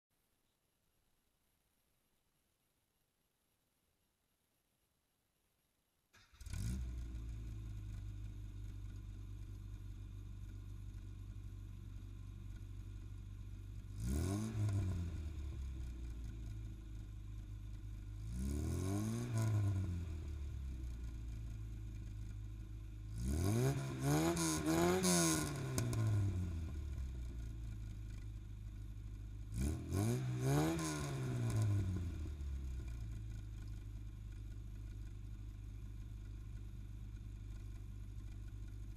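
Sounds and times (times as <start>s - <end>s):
car engine idling and revving: 6.2s - 38.9s.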